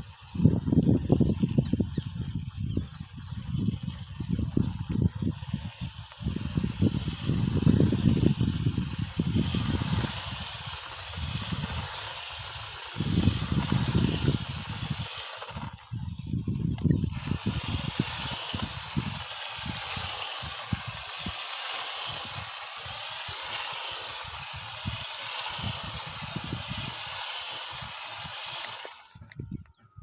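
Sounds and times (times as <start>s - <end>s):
electric motors hissing: 0.0s - 30.0s.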